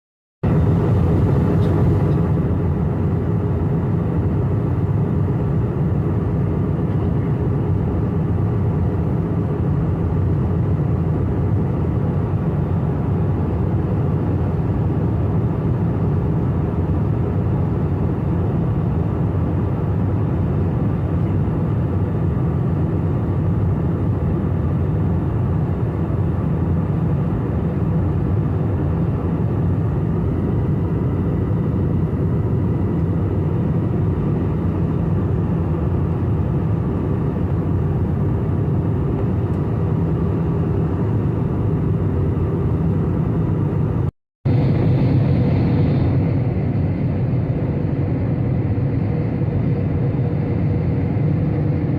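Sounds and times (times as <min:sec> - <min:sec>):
airplane cabin engine drone: 0:00.4 - 0:51.9.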